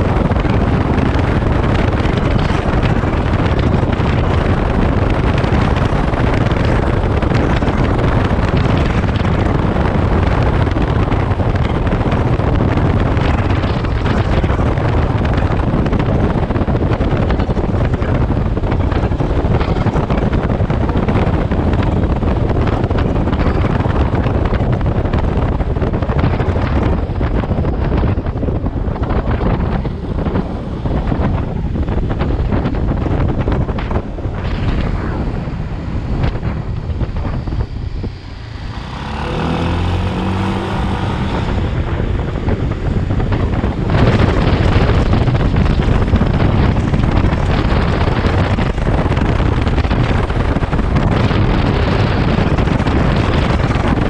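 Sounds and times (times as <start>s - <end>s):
motorcycle engine cruising: 0.0s - 54.0s
wind noise on microphone: 0.0s - 54.0s.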